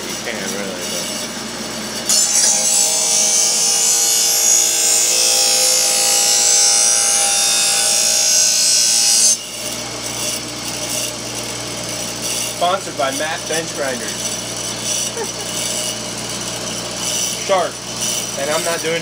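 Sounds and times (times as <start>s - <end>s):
bench grinder running: 0.0s - 19.0s
blade grinding on bench grinder: 0.0s - 19.0s.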